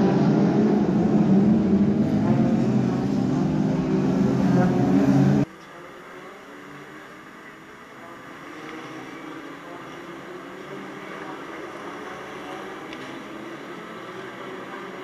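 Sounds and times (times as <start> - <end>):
distant engine drone: 0.0 - 15.0
race car engines passing close: 0.0 - 15.0.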